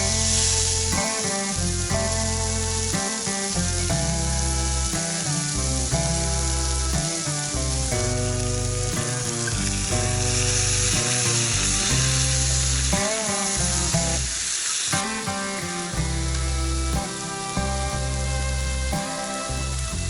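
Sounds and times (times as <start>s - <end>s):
food sizzling in a pan: 0.0s - 17.7s
background music with bass line: 0.0s - 20.0s.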